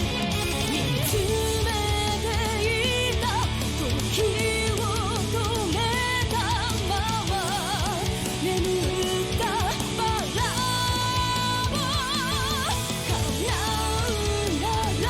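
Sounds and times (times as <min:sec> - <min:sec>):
heavy rock band playing: 0:00.0 - 0:15.0.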